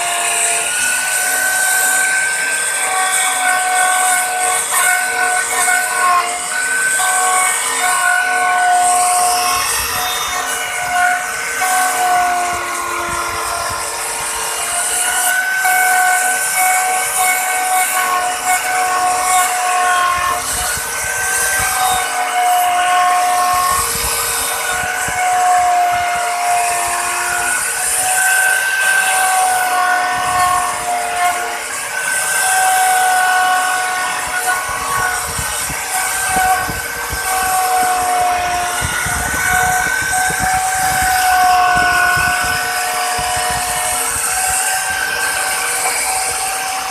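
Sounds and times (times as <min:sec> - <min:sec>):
hiss of cutting wood: 0:00.0 - 0:46.9
wood router whining: 0:00.0 - 0:46.9.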